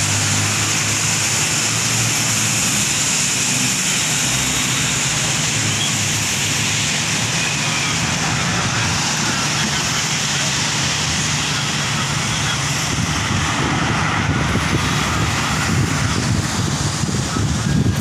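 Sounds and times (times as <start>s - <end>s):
heavy rain on pavement: 0.0s - 18.0s.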